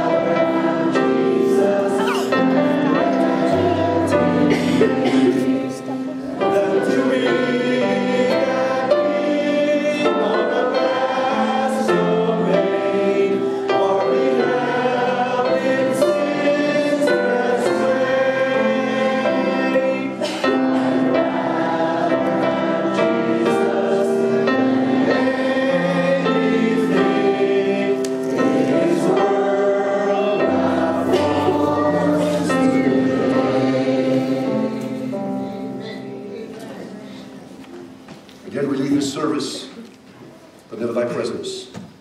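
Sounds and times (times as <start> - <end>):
congregation singing a hymn: 0.0 - 41.6.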